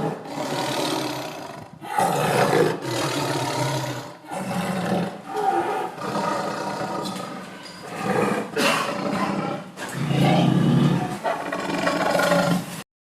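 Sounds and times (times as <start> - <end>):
tiger roaring: 0.0 - 12.8.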